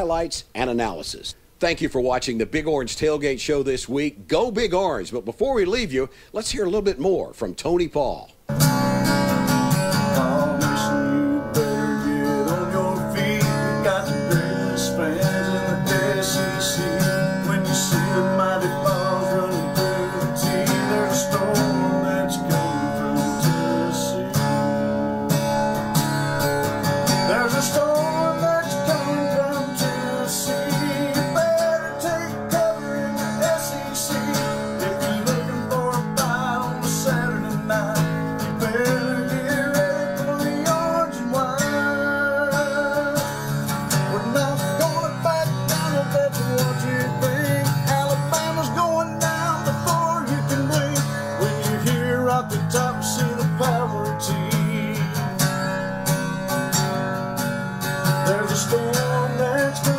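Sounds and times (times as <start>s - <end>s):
acoustic guitar strumming chords: 8.0s - 59.9s.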